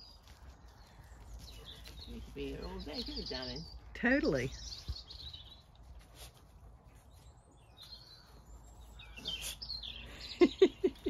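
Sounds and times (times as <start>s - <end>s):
wild birds chirping faintly: 0.0s - 11.0s.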